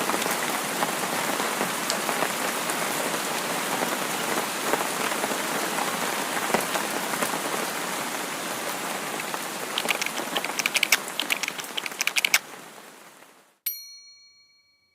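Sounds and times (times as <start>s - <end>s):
steady rain hiss: 0.0s - 13.6s.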